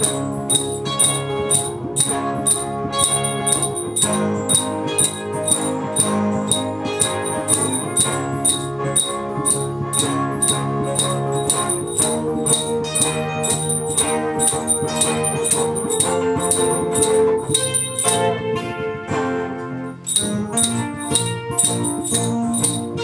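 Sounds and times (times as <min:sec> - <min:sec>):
electronic keyboard chords: 0:00.0 - 0:23.0.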